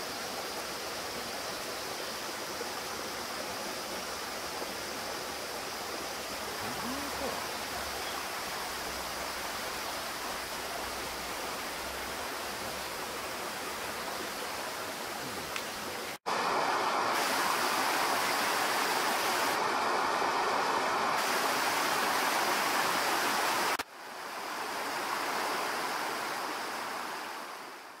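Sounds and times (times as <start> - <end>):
stream rushing over rocks: 0.0 - 28.0.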